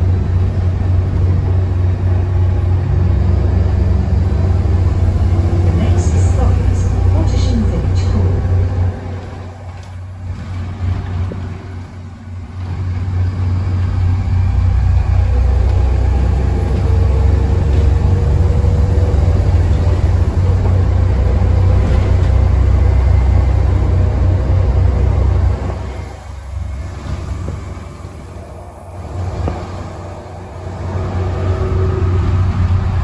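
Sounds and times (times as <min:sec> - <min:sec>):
bus diesel engine droning: 0:00.0 - 0:33.0.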